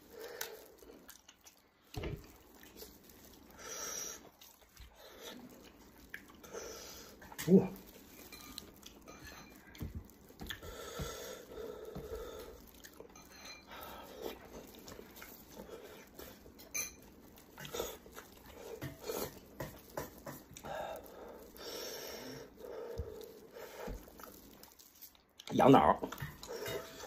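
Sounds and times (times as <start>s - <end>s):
hands tearing meat: 0.0s - 27.0s
wet chewing and smacking: 0.0s - 27.0s.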